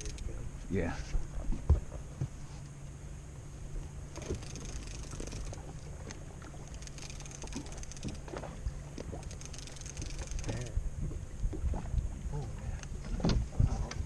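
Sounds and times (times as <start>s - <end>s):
fishing boat engine hum: 0.0s - 14.0s.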